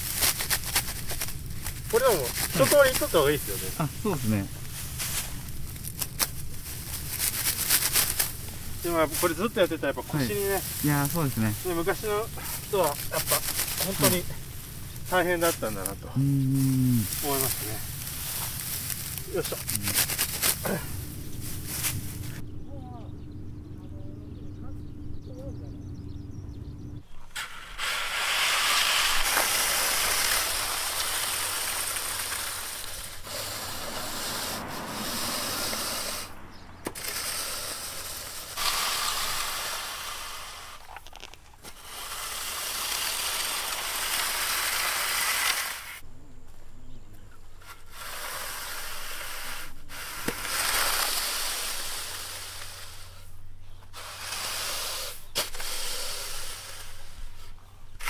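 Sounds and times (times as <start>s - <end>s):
rake scraping through rice grain: 0.0s - 22.4s, 27.2s - 46.0s, 47.6s - 53.3s, 53.9s - 58.0s.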